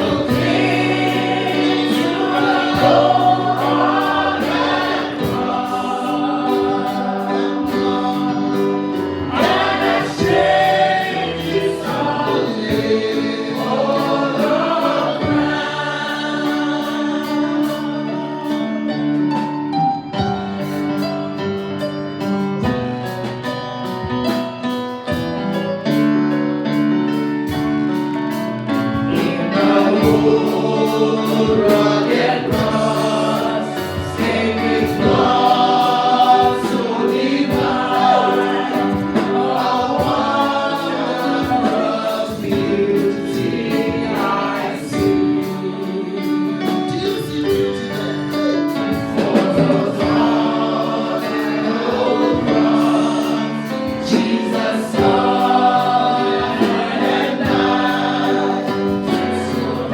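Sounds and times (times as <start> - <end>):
steady beat: 0.0 - 16.7, 27.6 - 59.9
choir singing: 0.0 - 25.2, 26.6 - 59.9
keyboard chords: 0.0 - 59.9.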